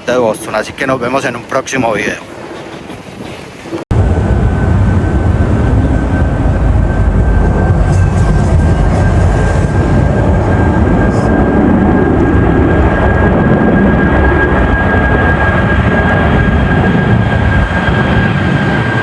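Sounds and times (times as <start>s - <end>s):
jet airliner passing low: 0.0s - 19.0s.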